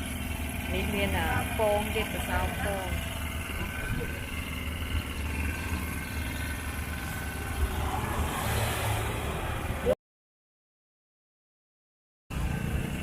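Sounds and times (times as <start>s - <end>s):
vehicle engine rumbling: 0.0s - 10.0s, 12.3s - 13.0s.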